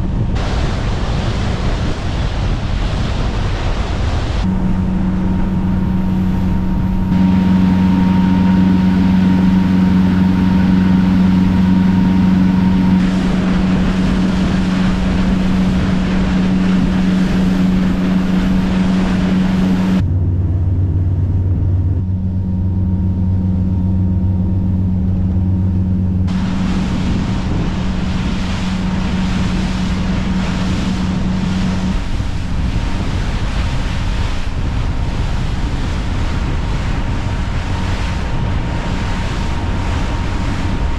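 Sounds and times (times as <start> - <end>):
motorboat engine humming: 0.0 - 40.9
rushing water: 0.0 - 40.9
wind on microphone: 0.0 - 40.9.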